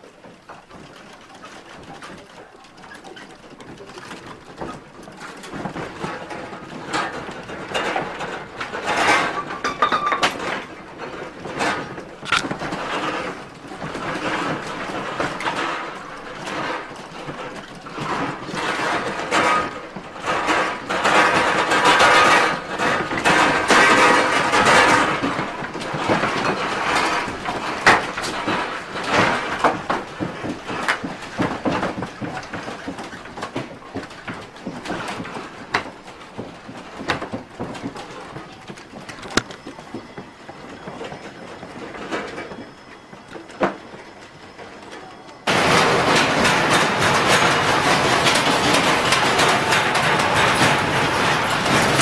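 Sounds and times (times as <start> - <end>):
furniture and objects rattling: 0.0 - 52.0.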